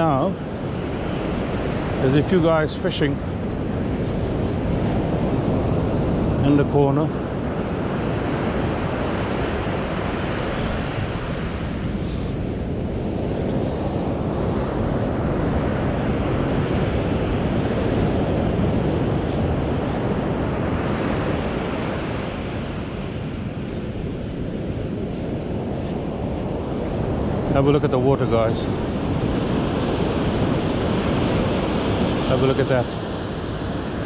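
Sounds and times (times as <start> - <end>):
waves breaking on sandy beach: 0.0 - 34.0
wind on microphone: 0.0 - 34.0.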